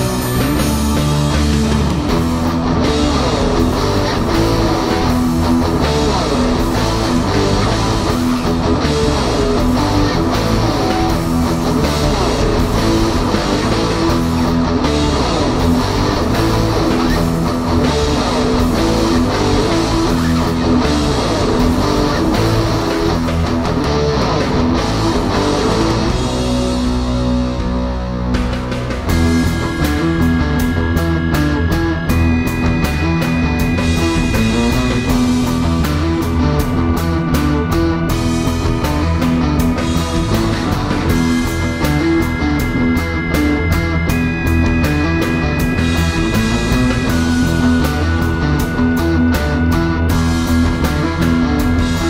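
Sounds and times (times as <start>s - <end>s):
rock music led by guitar: 0.0s - 52.0s.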